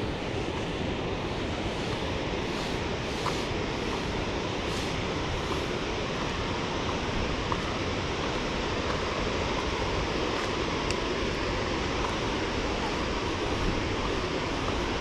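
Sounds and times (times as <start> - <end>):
falling water rushing: 0.0 - 15.0.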